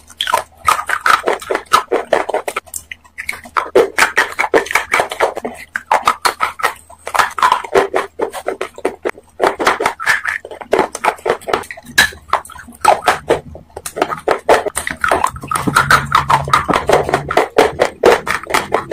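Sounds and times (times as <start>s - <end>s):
crunching and chewing: 0.0s - 18.9s.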